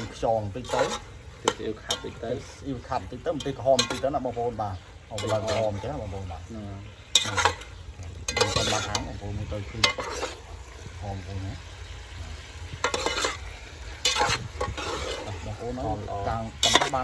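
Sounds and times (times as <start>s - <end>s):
metal spoon scraping a metal pot: 0.0s - 10.5s, 12.7s - 17.0s
meat and sauce sizzling: 0.0s - 17.0s.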